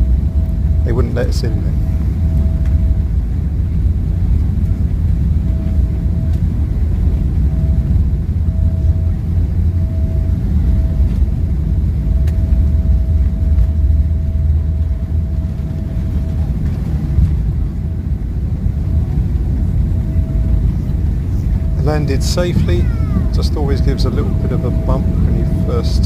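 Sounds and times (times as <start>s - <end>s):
cabin engine and airflow rumble: 0.0s - 26.0s
faint steady whine: 0.0s - 26.0s.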